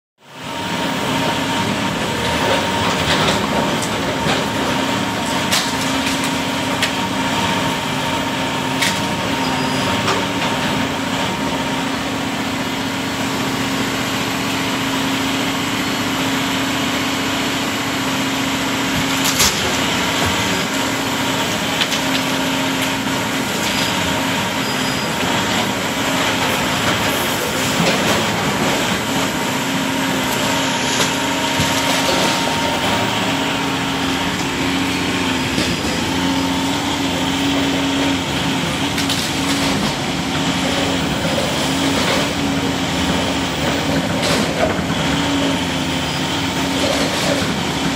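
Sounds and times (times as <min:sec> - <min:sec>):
diesel excavator engine running: 0:00.2 - 0:47.9.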